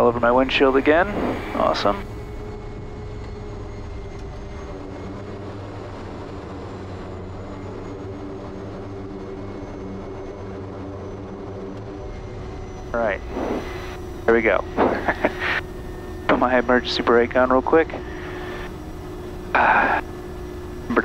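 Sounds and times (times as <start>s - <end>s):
high turbine whine: 0.0s - 21.0s
turboprop engine drone: 0.0s - 21.0s.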